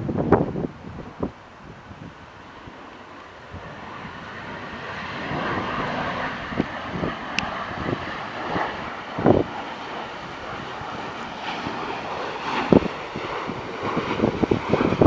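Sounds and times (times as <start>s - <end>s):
jet engine noise: 0.0s - 15.0s
wind buffeting microphone: 0.0s - 15.0s.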